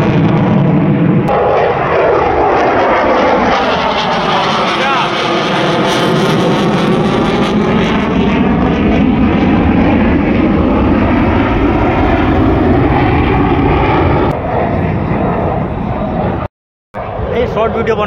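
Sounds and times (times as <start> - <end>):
fighter jet flying past: 0.0 - 18.0.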